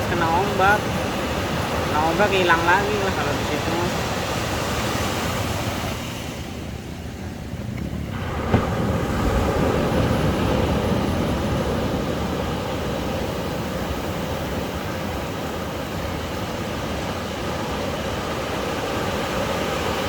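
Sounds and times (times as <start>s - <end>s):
ocean surf on sandy beach: 0.0s - 20.0s.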